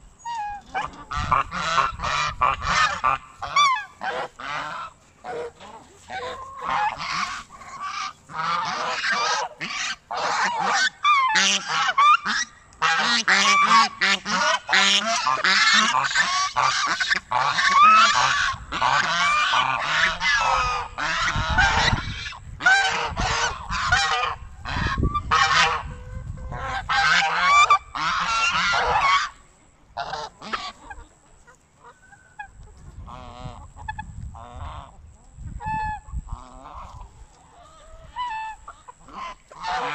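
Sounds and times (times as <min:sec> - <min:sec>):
geese honking: 0:00.2 - 0:35.0, 0:35.6 - 0:39.9.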